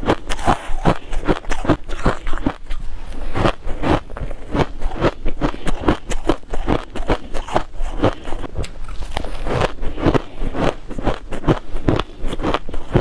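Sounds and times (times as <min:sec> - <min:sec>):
chewing crunchy ice: 0:00.0 - 0:13.0.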